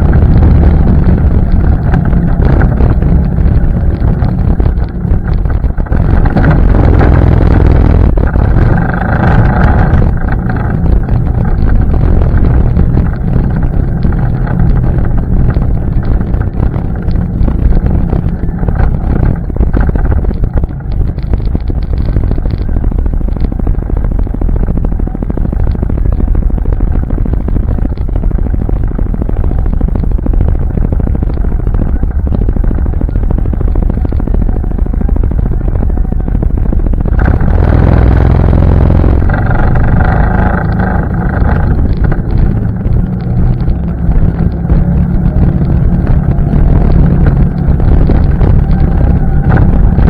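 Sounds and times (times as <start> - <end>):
atv engine running: 0.0 - 50.0
wind buffeting microphone: 0.0 - 50.0.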